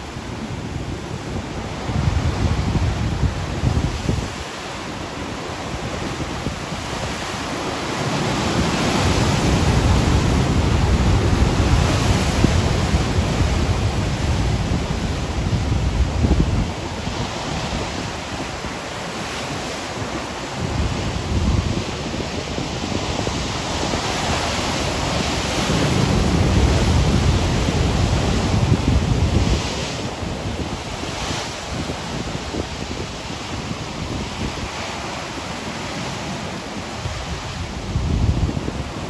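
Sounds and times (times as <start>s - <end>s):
ocean waves breaking on beach: 0.0s - 39.0s.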